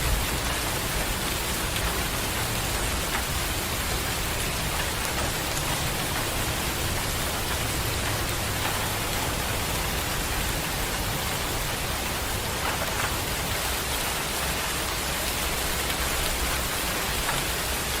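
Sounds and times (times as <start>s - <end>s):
heavy rain pattering: 0.0s - 18.0s.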